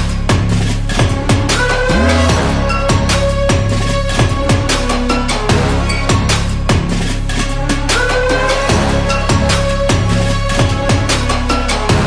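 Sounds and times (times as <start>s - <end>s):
electronic music with kick drums: 0.0s - 12.0s.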